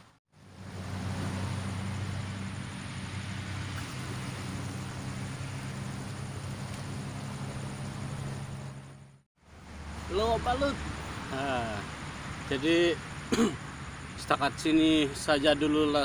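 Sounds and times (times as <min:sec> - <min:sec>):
low engine hum: 0:00.0 - 0:15.9
constant hiss: 0:00.0 - 0:16.0.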